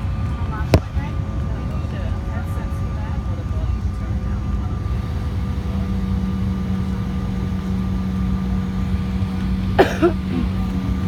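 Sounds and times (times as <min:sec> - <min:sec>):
jet engines low rumble in cabin: 0:00.0 - 0:11.0.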